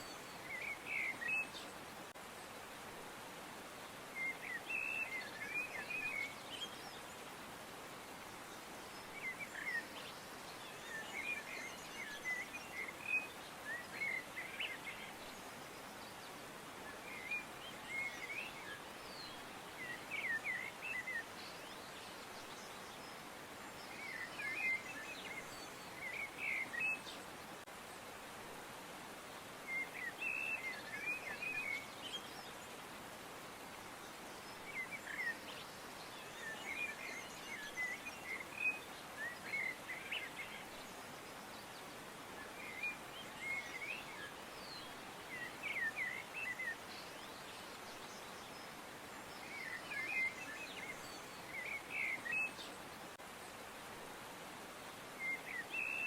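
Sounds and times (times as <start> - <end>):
small birds twittering: 0.0 - 2.6, 3.6 - 28.3, 29.0 - 56.0
steady background hiss: 0.0 - 56.0.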